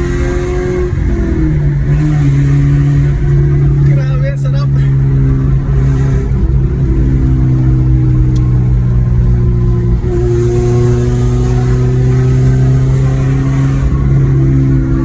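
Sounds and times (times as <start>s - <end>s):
car engine under load: 0.0s - 15.0s.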